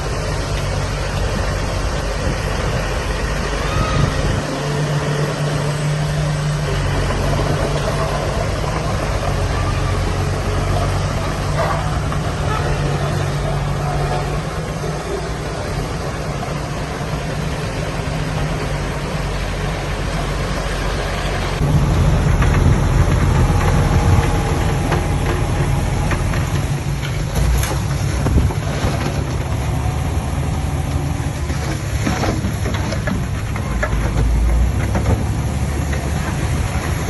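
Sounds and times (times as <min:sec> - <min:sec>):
diesel engine of heavy machinery: 0:00.0 - 0:37.0.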